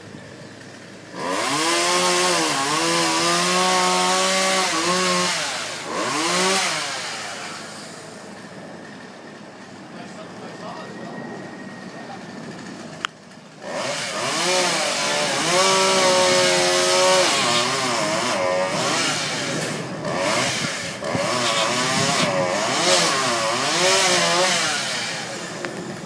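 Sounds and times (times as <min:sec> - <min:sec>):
chainsaw cutting wood: 0:00.4 - 0:09.9, 0:12.4 - 0:26.0.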